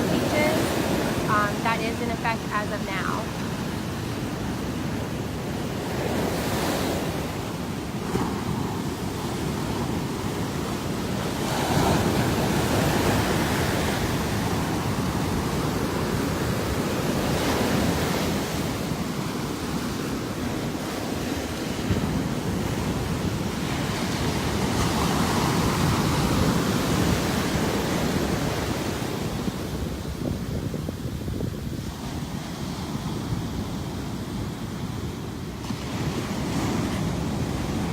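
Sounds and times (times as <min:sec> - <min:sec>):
ocean surf washing onto beach: 0:00.0 - 0:37.9
wind on microphone: 0:00.0 - 0:37.9.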